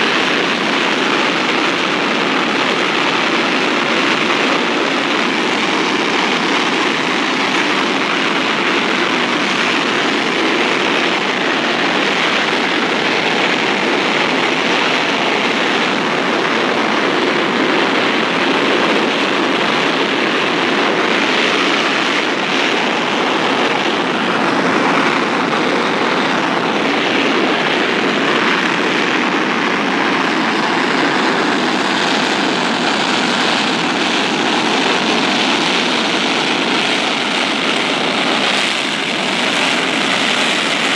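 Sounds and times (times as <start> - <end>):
jet engine idling: 0.0 - 40.9.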